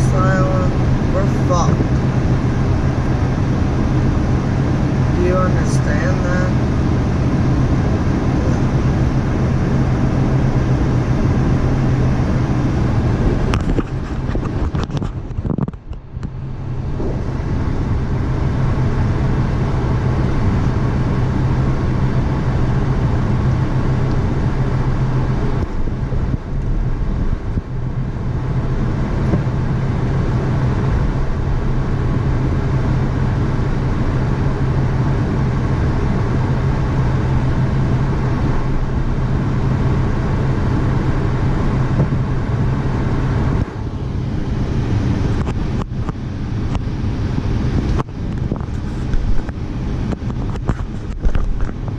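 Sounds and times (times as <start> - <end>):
vehicle engine humming: 0.0 - 51.9.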